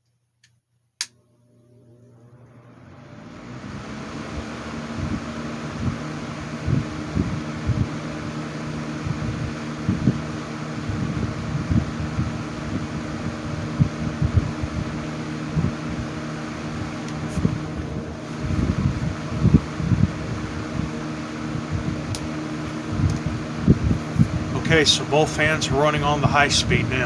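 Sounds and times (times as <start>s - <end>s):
box fans running: 1.0s - 27.0s.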